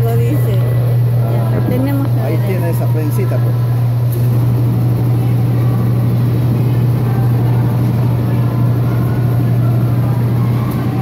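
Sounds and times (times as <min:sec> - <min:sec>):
machine low hum: 0:00.0 - 0:11.0.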